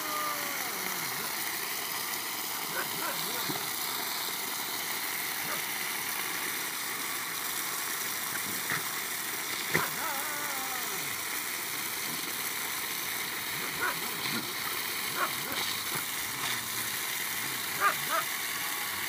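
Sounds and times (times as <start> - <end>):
water hissing from pipe leak: 0.0 - 19.0.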